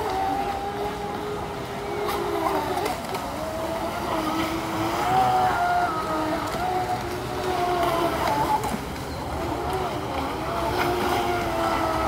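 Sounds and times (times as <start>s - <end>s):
model boat motors whining: 0.0s - 12.0s.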